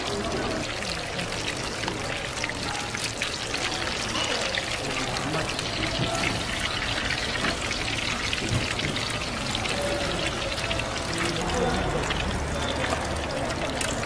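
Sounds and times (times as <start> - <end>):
fritters deep-frying in oil: 0.0 - 14.0.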